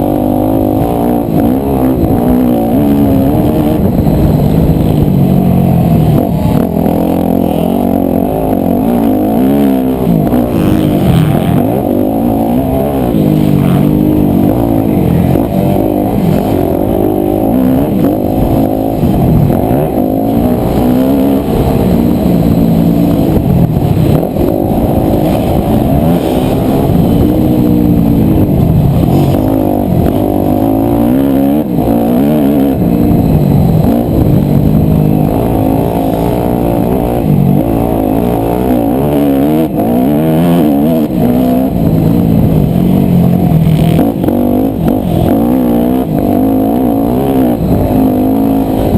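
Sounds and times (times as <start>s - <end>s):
motorbike engine revving: 0.0s - 48.9s.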